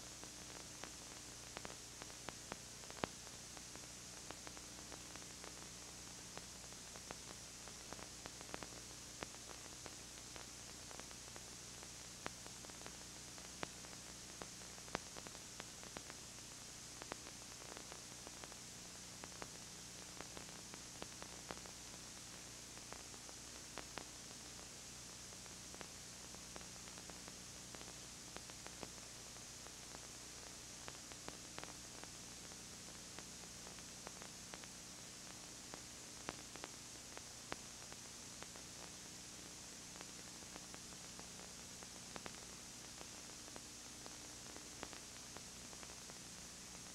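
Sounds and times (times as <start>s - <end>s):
faint clicks and crackles: 0.0s - 46.9s
low electrical hum: 0.0s - 46.9s
tape hiss: 0.0s - 46.9s.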